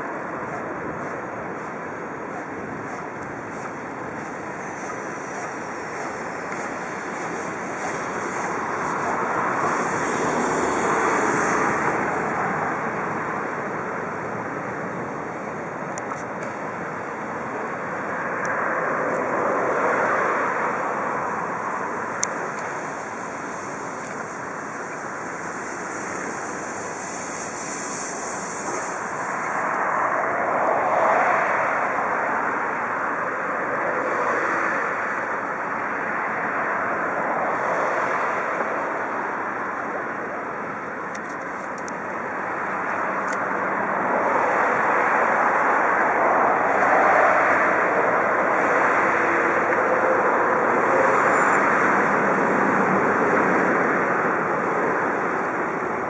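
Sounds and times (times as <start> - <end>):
locomotives rumbling on tracks: 0.0 - 56.0.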